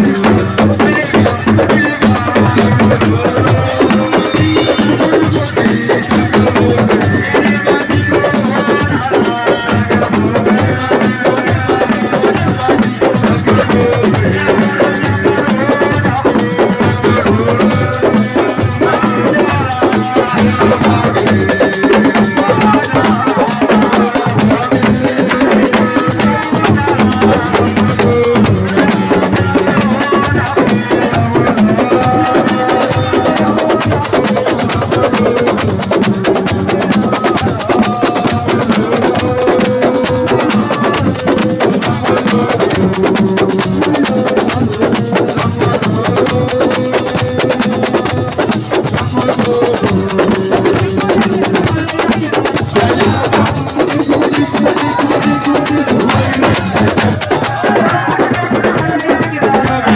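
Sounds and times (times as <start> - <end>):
dense drumming and percussion: 0.0 - 59.9
melody over drums: 0.0 - 59.9.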